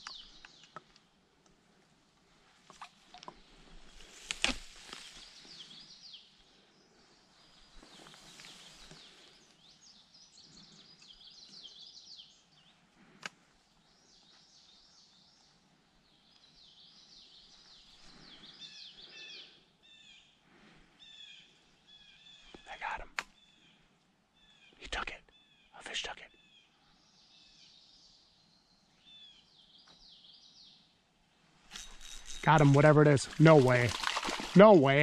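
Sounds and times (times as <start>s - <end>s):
songbird singing: 0.0s - 1.6s, 2.7s - 35.0s
faint outdoor hiss: 0.0s - 35.0s.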